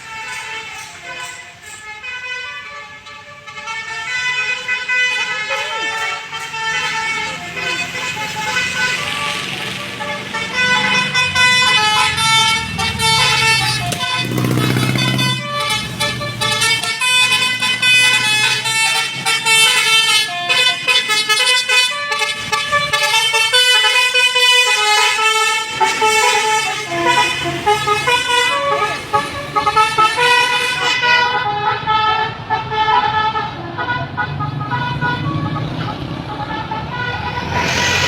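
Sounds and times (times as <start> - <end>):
musical bus horn playing tune: 0.0 - 38.0.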